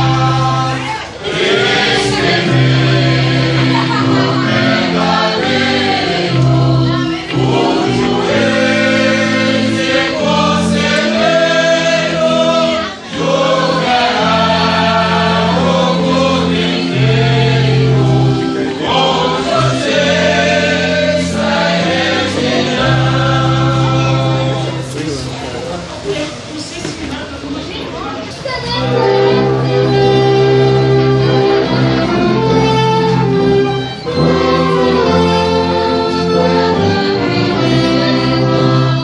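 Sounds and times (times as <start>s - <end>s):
choir singing a hymn: 0.0s - 27.2s, 28.7s - 39.0s.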